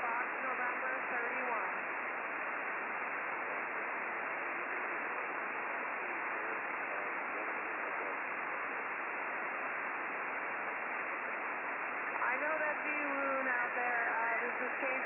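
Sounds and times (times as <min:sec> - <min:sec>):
faint wavering radio tones: 0:00.0 - 0:15.0
radio receiver hiss: 0:00.0 - 0:15.0.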